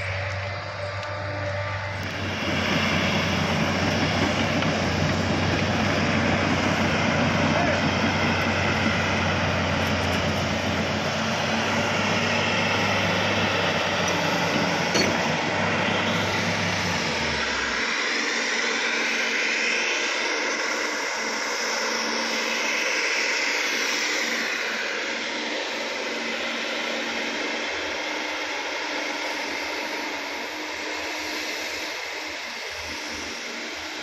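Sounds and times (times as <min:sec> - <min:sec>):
excavator diesel engine running: 0:00.0 - 0:34.0
hissing machine noise: 0:00.0 - 0:34.0.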